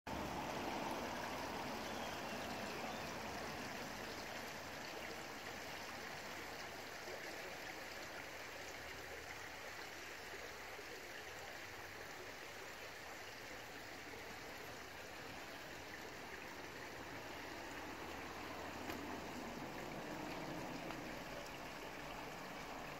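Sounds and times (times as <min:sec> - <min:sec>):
river flowing over stones: 0:00.1 - 0:22.9.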